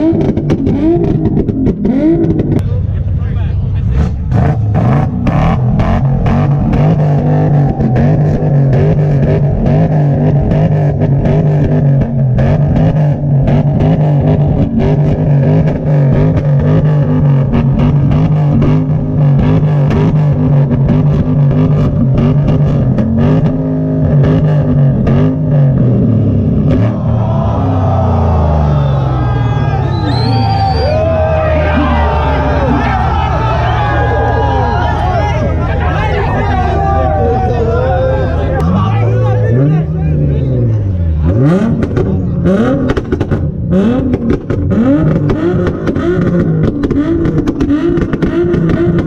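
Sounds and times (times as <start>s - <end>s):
car engine at high revs: 0.0s - 49.0s.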